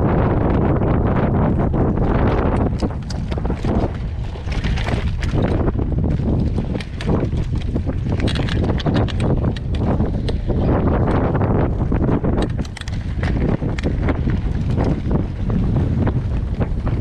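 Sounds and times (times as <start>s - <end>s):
wind buffeting microphone: 0.0s - 17.0s
bike clicks and rattles: 1.4s - 17.0s.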